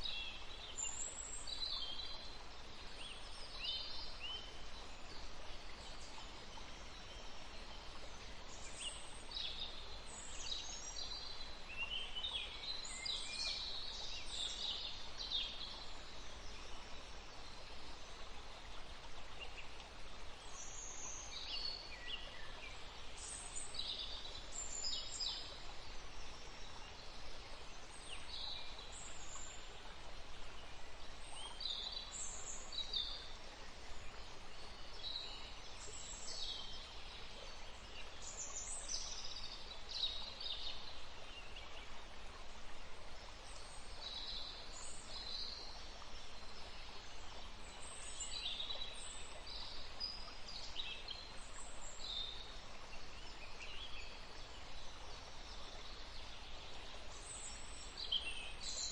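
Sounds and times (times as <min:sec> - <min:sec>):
steady background hiss: 0:00.0 - 0:58.9.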